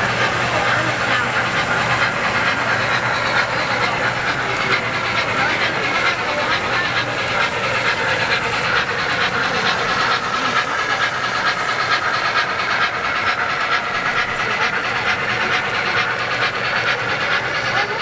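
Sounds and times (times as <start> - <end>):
model train wheels clicking on track: 0.0 - 18.0.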